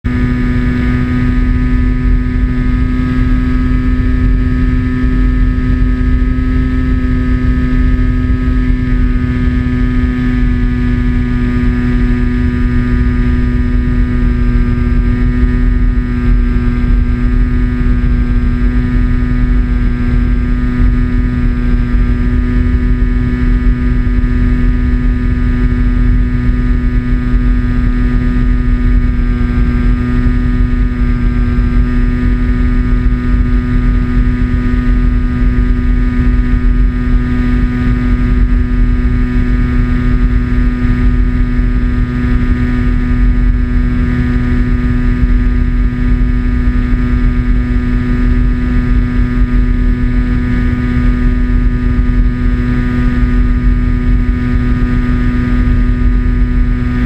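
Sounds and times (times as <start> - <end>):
low rushing rumble: 0.0 - 57.0.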